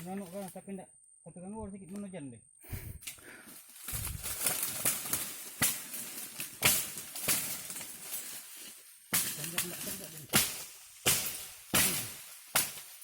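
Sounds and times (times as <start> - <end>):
rustling vines and brush: 0.0 - 0.6, 2.7 - 13.0.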